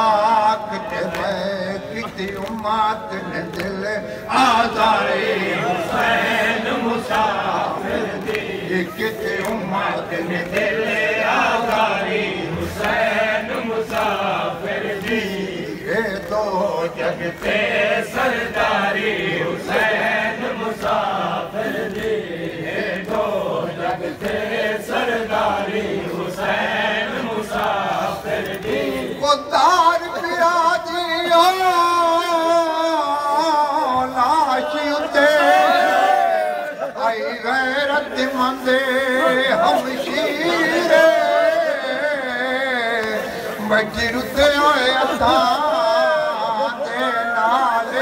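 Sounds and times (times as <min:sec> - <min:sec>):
crowd of men chanting: 0:00.0 - 0:48.0.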